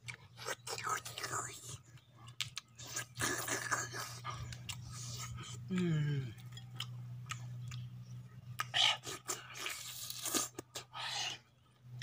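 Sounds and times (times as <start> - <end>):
chewing and mouth smacking: 0.0 - 10.9
steady low hum: 0.0 - 12.0.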